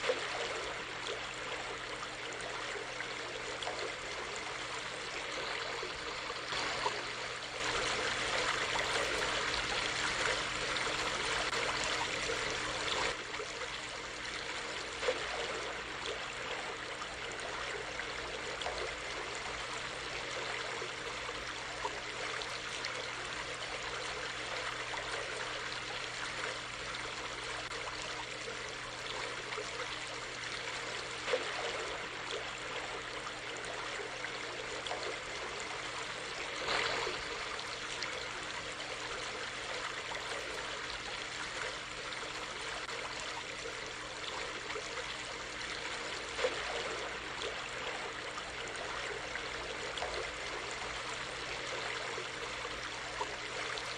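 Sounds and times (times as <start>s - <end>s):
stream flowing: 0.0s - 53.9s
water splashes and gurgles: 0.0s - 53.9s.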